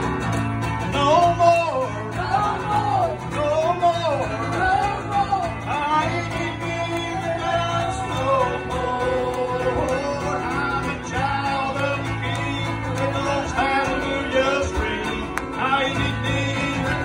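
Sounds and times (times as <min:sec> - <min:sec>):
strummed acoustic guitar: 0:00.0 - 0:17.0
man singing into a microphone: 0:00.8 - 0:17.0.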